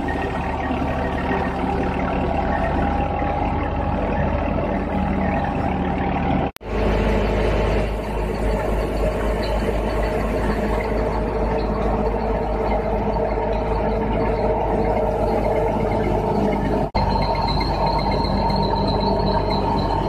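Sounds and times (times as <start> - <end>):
tractor engine hum: 0.0 - 20.0
wheat thresher running: 0.0 - 20.0.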